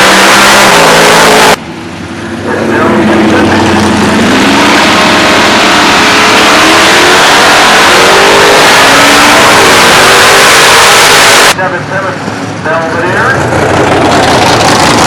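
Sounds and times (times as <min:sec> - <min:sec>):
race car accelerating: 0:00.0 - 0:01.6, 0:02.2 - 0:11.6, 0:12.2 - 0:15.0.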